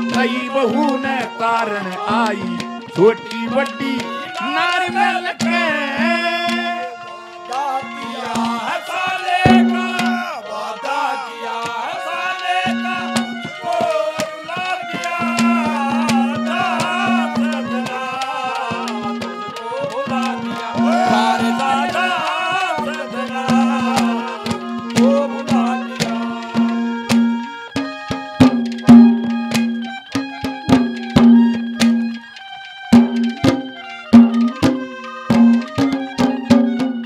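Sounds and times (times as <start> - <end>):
dholak drumming: 0.0 - 37.0
wavering bending melody: 5.4 - 11.0, 12.5 - 37.0.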